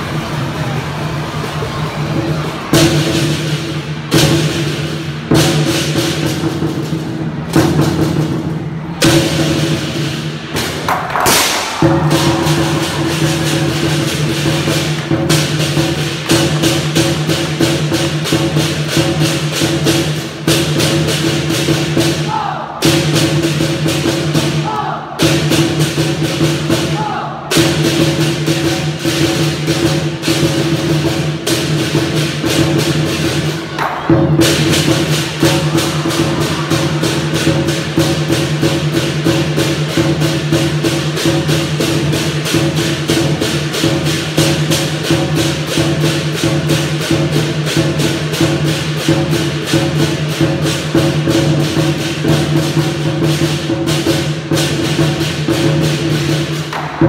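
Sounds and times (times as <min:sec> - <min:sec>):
drums and cymbals playing: 0:00.0 - 0:57.0.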